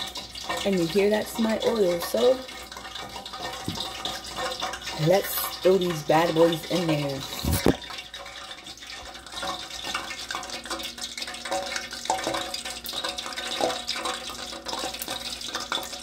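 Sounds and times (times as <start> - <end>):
cooking oil crackling and popping: 0.0 - 16.0.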